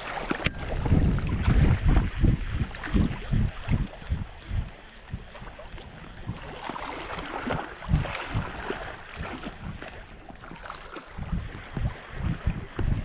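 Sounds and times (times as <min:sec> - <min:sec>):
small waves lapping shore: 0:00.0 - 0:13.0
wind buffeting microphone: 0:00.0 - 0:13.0.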